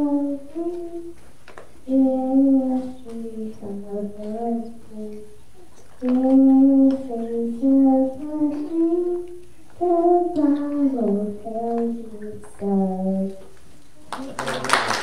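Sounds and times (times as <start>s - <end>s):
child singing: 0.0s - 1.2s, 1.8s - 13.5s.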